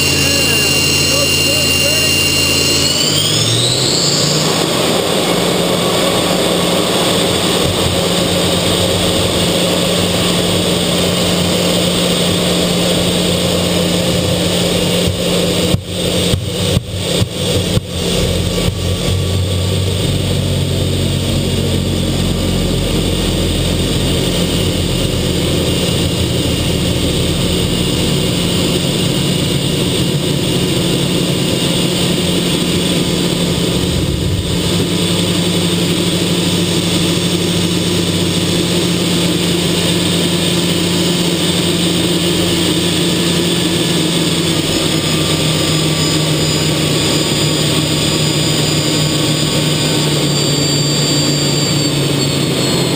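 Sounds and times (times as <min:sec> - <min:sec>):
deep rumble: 0:00.0 - 0:45.8
jet engine drone and whine: 0:00.0 - 0:52.9.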